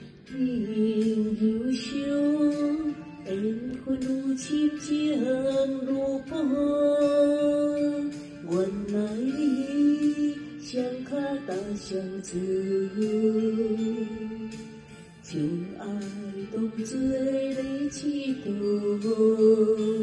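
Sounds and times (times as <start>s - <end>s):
steady musical accompaniment: 0.0s - 20.0s.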